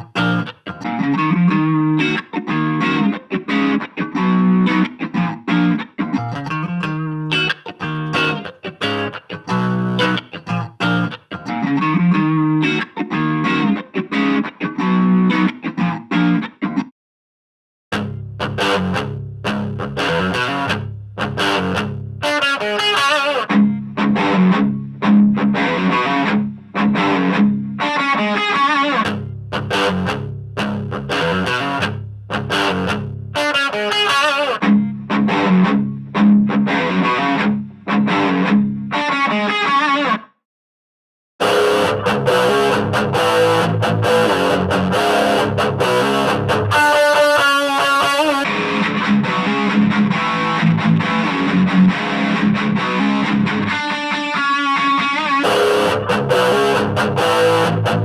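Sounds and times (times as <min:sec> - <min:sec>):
distorted electric guitar riff: 0:00.0 - 0:16.9, 0:17.9 - 0:40.3, 0:41.4 - 0:58.0.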